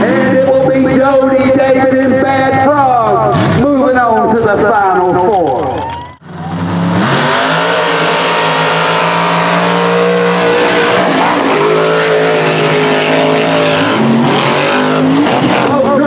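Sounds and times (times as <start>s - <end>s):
truck engine revving high: 0.0s - 16.0s.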